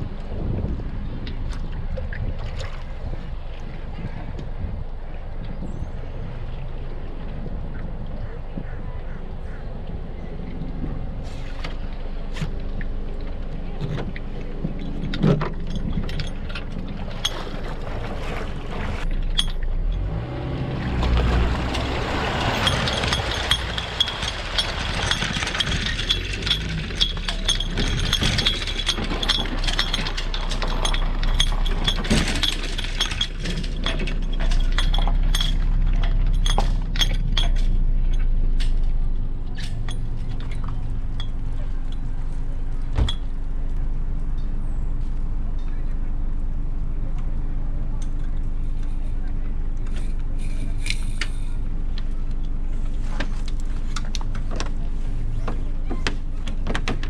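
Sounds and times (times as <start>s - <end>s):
steady low rumble: 0.0s - 56.8s
boat rigging rattling and clinking: 0.0s - 57.0s.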